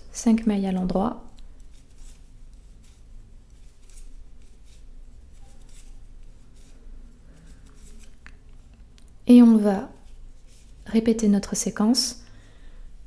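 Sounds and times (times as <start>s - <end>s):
low room hum: 0.0s - 13.0s
knitting needles rubbing and ticking: 0.8s - 11.6s.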